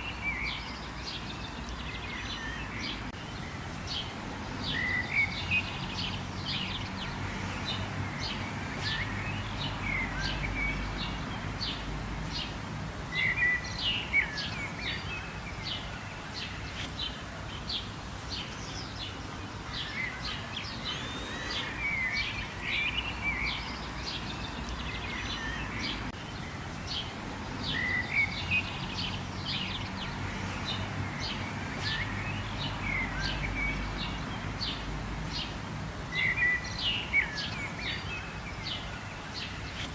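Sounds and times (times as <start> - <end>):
birds chirping: 0.0 - 39.9
rain hissing: 0.0 - 39.9.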